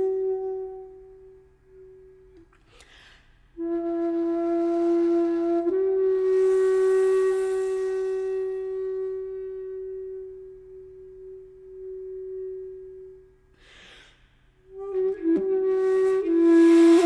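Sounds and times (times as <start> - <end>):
solo flute music: 0.0 - 2.6, 3.6 - 13.5, 14.7 - 17.0.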